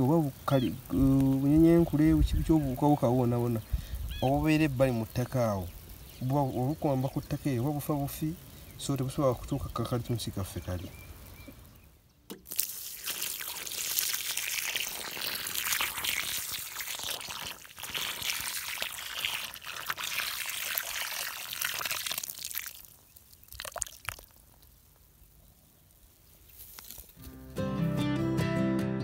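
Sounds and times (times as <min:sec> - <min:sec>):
water pouring onto soil: 0:00.0 - 0:27.3.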